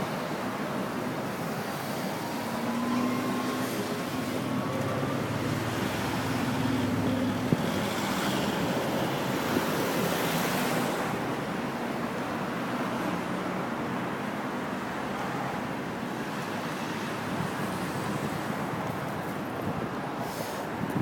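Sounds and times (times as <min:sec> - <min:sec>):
tyres on the road: 0:00.0 - 0:21.0.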